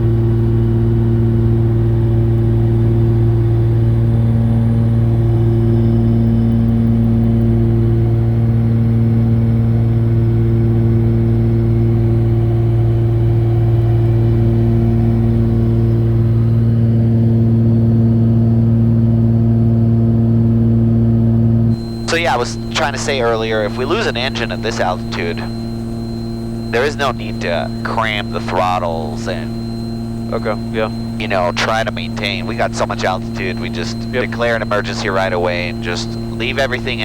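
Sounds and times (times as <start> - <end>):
aircraft cabin engine drone: 0.0 - 37.0.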